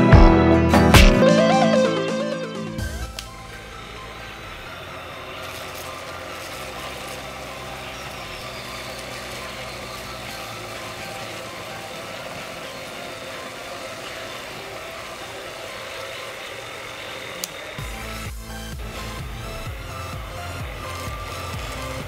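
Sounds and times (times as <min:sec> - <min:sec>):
small vacuum motor running: 0:02.8 - 0:22.0.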